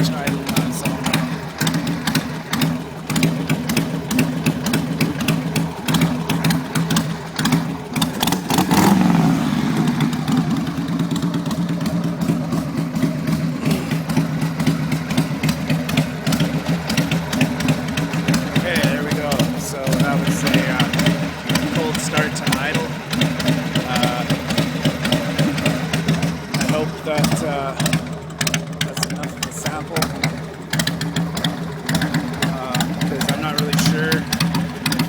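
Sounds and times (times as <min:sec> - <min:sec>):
motorcycle engine idling: 0:00.0 - 0:35.0.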